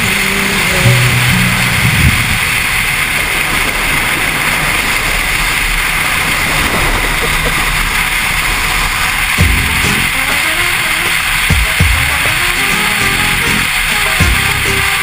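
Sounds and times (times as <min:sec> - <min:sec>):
motorcycle road noise: 0:00.0 - 0:15.0
wind rush: 0:00.0 - 0:15.0.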